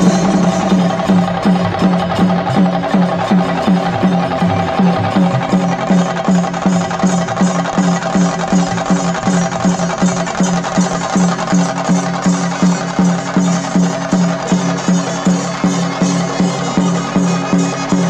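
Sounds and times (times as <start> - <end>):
drums beaten with sticks: 0.0 - 18.0.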